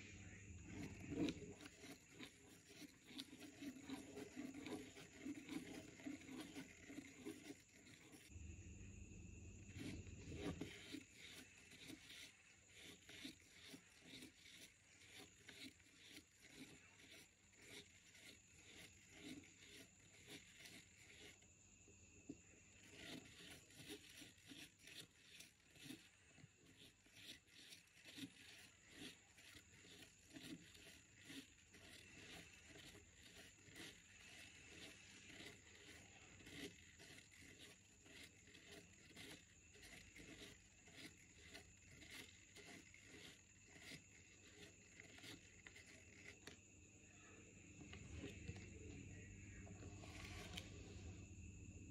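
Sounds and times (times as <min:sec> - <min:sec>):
plastic gear rubbing: 0:00.0 - 0:08.4, 0:09.5 - 0:21.5, 0:22.4 - 0:51.3
pen scratching on paper: 0:00.0 - 0:08.8, 0:09.4 - 0:21.5, 0:22.4 - 0:51.2.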